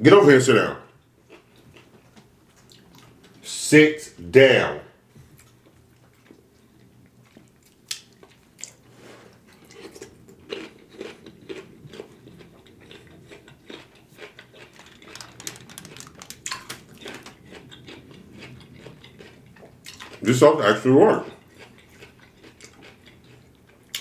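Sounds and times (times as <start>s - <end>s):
person chewing food: 1.3s - 3.4s, 5.2s - 20.3s, 21.2s - 24.0s.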